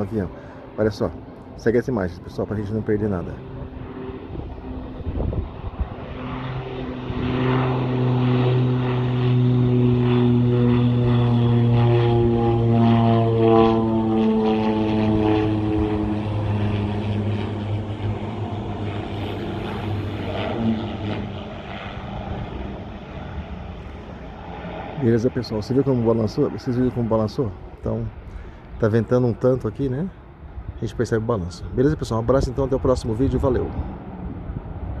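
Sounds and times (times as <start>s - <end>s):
propeller airplane passing: 0.0s - 35.0s
wind buffeting microphone: 3.3s - 29.4s, 30.0s - 35.0s.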